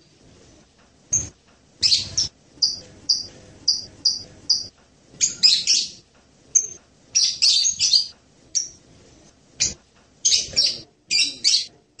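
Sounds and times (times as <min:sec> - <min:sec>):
parrot chirping: 0:01.1 - 0:08.8, 0:09.6 - 0:12.0.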